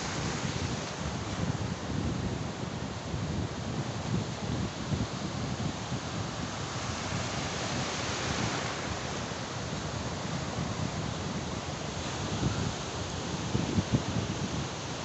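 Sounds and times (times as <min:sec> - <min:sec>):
sea surf breaking on beach: 0:00.0 - 0:15.0
wind buffeting microphone: 0:00.0 - 0:15.0.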